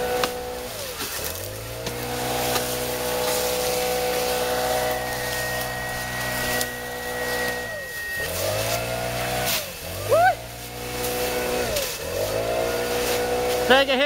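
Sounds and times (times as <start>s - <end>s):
air rushing from nozzle: 0.0s - 13.8s
leaf blower engine running: 0.0s - 14.0s.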